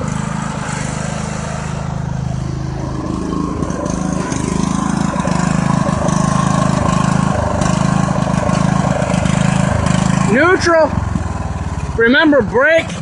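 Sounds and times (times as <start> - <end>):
riding tractor engine running: 0.0 - 13.0.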